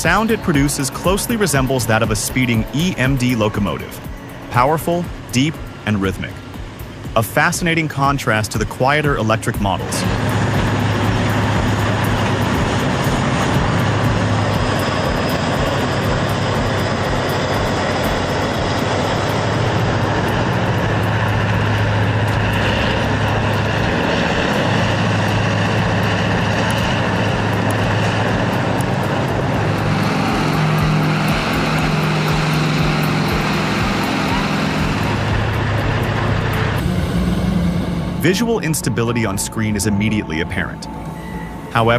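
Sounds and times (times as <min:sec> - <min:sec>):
diesel engine droning under load: 0:00.0 - 0:41.9.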